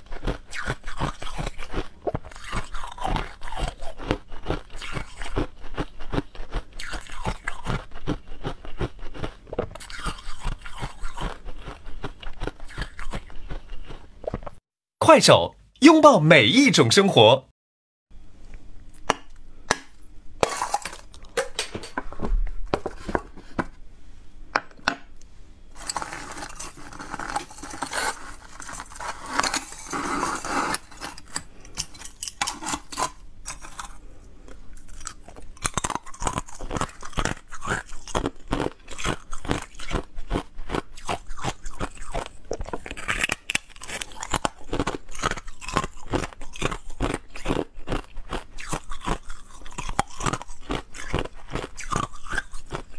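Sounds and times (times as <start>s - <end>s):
ice crunching while chewed: 0.0s - 14.6s, 20.4s - 21.8s, 25.8s - 52.9s.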